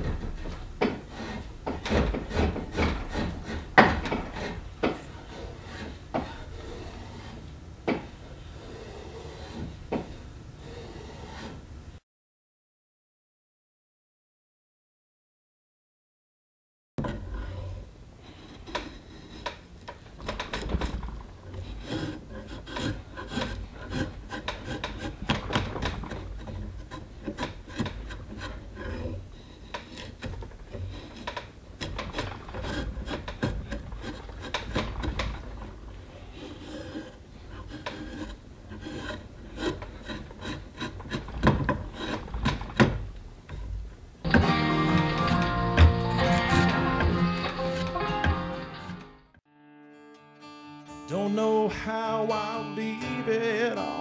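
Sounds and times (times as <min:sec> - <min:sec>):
drawknife scraping wood: 0:00.0 - 0:11.6, 0:17.0 - 0:49.1.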